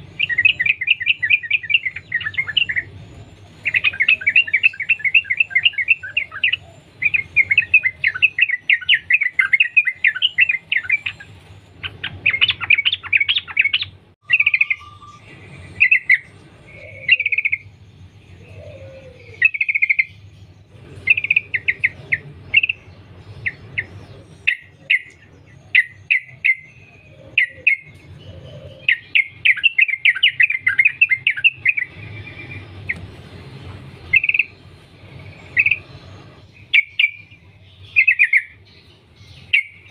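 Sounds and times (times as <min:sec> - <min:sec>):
bird singing in chattering runs: 0:00.0 - 0:39.9.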